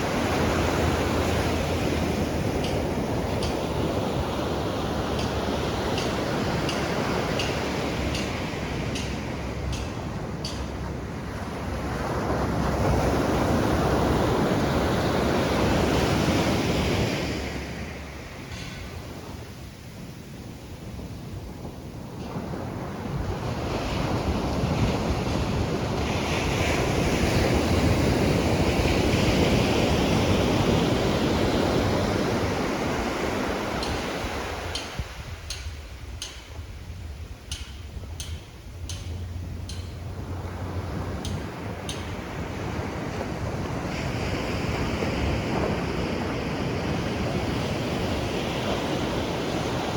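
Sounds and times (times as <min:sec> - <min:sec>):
wave breaking on shore: 0:00.0 - 0:36.1, 0:39.0 - 0:49.9
sea surf washing: 0:00.0 - 0:49.9
wind rumbling on microphone: 0:00.0 - 0:49.9.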